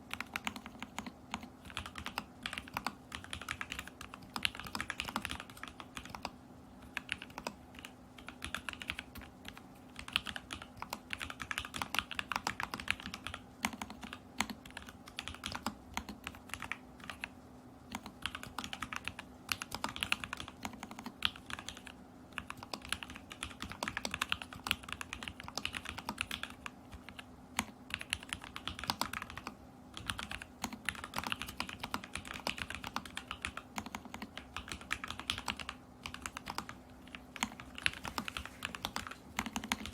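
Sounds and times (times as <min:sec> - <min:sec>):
typing on a mechanical keyboard: 0:00.0 - 0:39.9.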